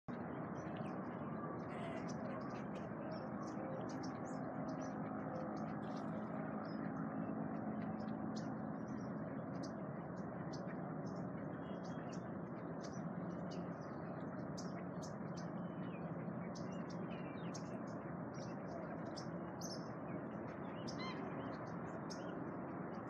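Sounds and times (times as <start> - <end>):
birds chirping: 0.1 - 23.0
low background rumble: 0.1 - 23.0.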